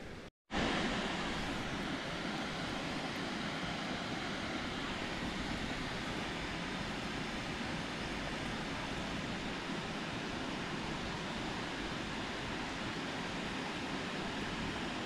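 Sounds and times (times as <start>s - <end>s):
steady outdoor rushing noise: 0.1s - 15.0s.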